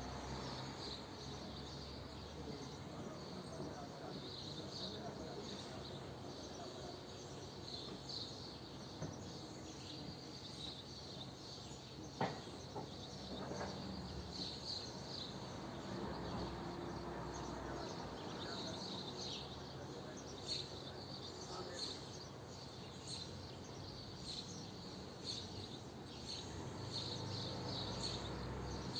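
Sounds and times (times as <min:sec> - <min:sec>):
swallows twittering: 0:00.0 - 0:28.9.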